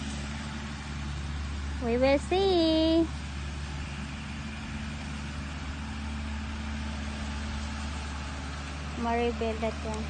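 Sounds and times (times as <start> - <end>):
engine humming steadily: 0.0 - 10.0.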